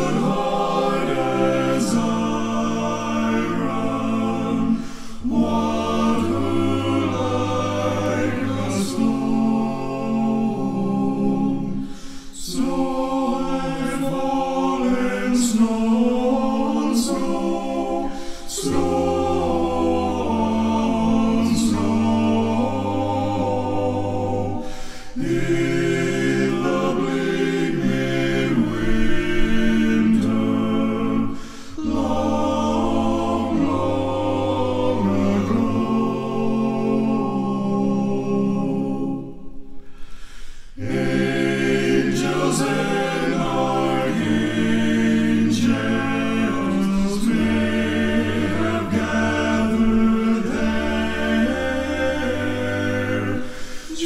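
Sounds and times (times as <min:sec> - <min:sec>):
male vocal group singing: 0:00.0 - 0:54.0.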